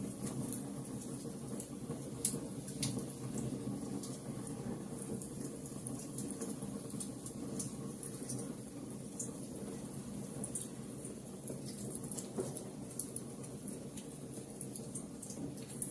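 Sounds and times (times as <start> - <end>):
fire crackles: 0.0 - 15.9
wood fire burning: 0.0 - 15.9.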